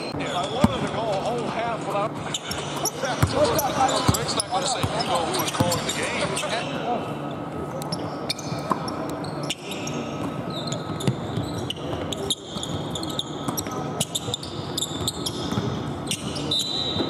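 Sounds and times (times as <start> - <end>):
sneakers squeaking: 0.0 - 17.0.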